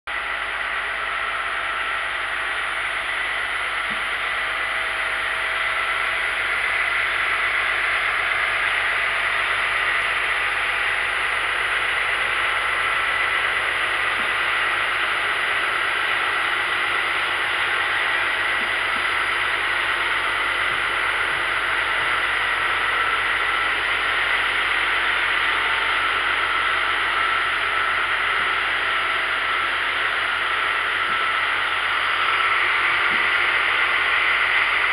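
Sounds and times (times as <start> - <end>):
faint high whine: 0.1 - 34.9
rail mowing machine hissing: 1.6 - 34.9.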